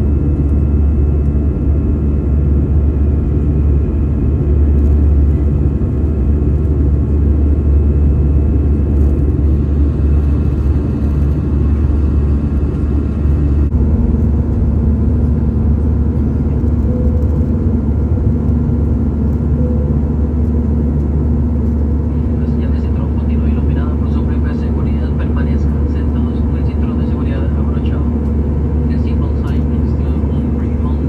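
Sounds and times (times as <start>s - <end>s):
jet engine cabin rumble: 0.0s - 31.0s.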